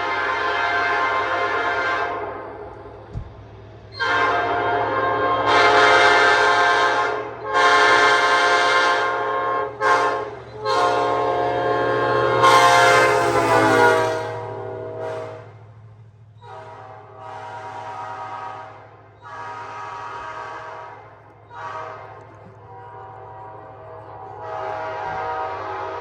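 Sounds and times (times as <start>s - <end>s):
locomotive air horn blasts: 0.0s - 2.9s, 3.9s - 15.6s, 16.4s - 26.0s.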